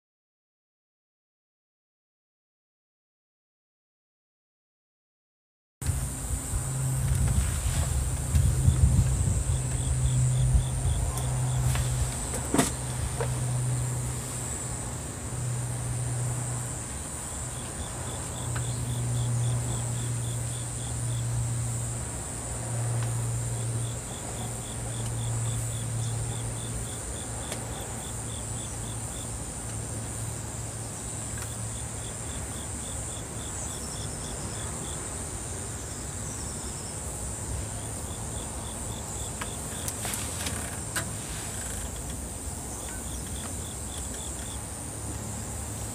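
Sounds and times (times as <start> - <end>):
insects high-pitched trill: 5.8 - 45.9
rapid pulsed insect chirps: 6.0 - 45.9.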